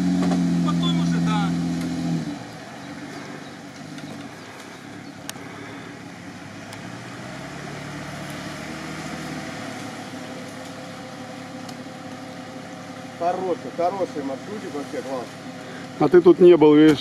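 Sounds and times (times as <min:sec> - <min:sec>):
off-road vehicle engine idling: 0:00.0 - 0:17.0.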